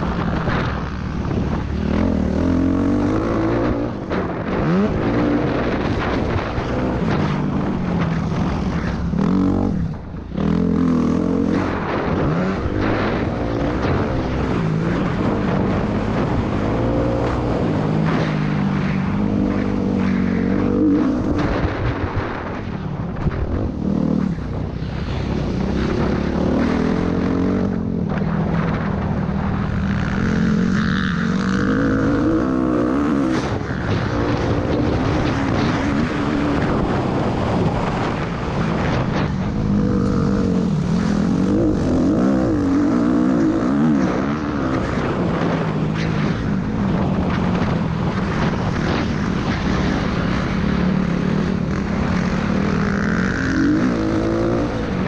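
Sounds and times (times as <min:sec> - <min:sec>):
motocross bike engine revving: 0:00.0 - 0:22.7, 0:23.5 - 0:55.0
wind noise on microphone: 0:00.0 - 0:55.0.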